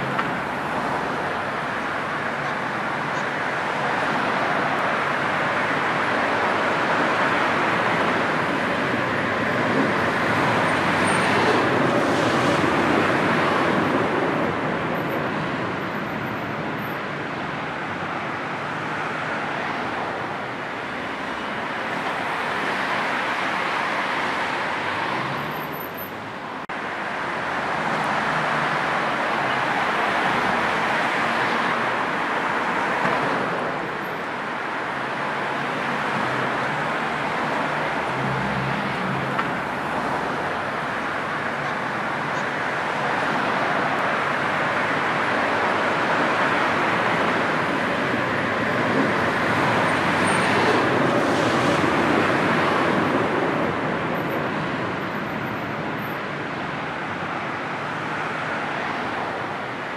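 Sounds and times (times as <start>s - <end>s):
dense motorway traffic: 0.0s - 59.9s.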